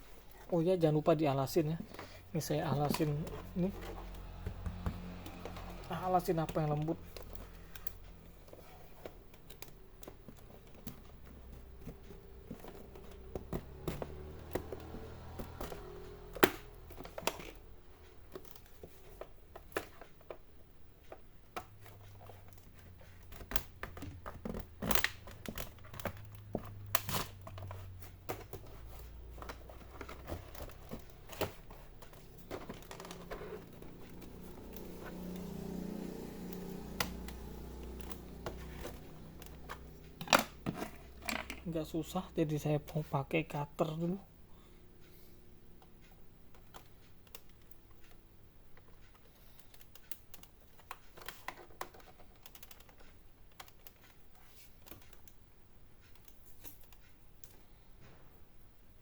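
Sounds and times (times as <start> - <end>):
plastic clicks and scrapes: 1.8 - 41.7, 45.8 - 55.4.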